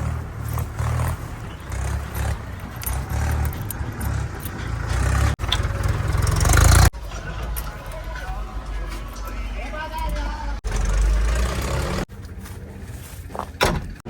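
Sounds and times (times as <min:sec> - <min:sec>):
heavy diesel engine under load: 0:00.0 - 0:14.0.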